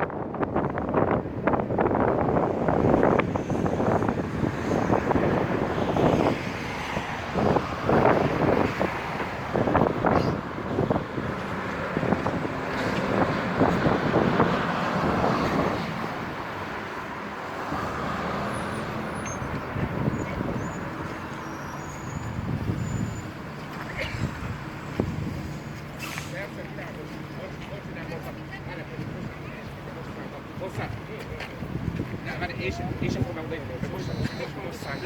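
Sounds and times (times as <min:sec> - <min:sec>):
wind gusting on microphone: 0:00.0 - 0:26.5, 0:28.8 - 0:35.0
road traffic rumble: 0:00.0 - 0:35.0.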